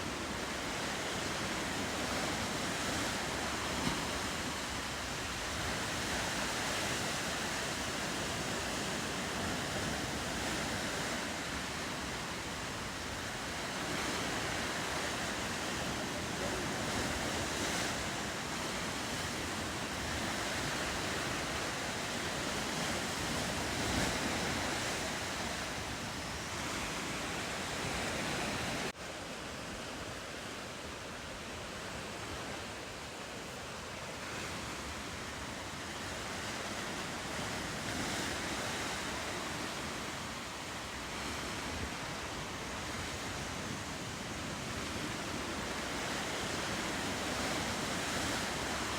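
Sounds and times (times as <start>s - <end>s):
ocean surf washing: 0.0s - 48.9s.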